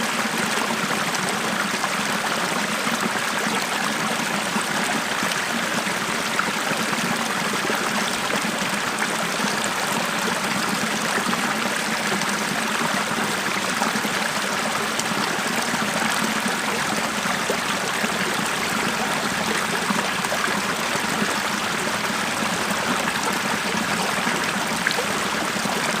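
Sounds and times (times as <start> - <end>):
stream babbling over stones: 0.0 - 26.0.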